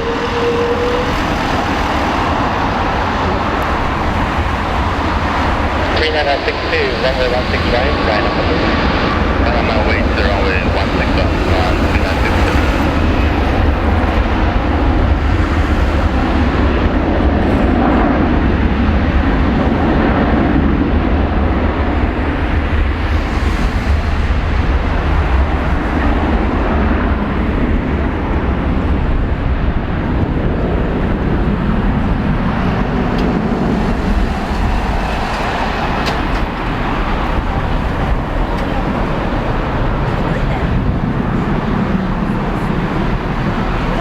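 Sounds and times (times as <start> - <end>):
jet engines at takeoff: 0.0 - 44.0.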